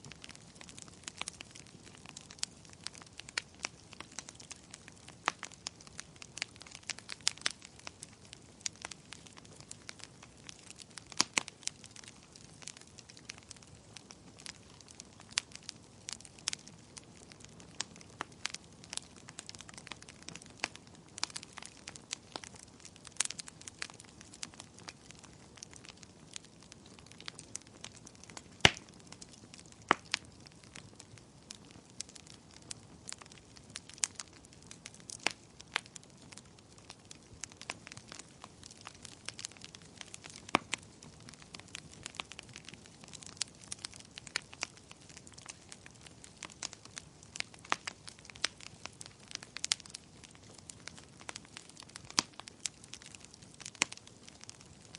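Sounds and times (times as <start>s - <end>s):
faint steady hiss: 0.0s - 54.9s
wood fire crackling: 0.0s - 54.9s.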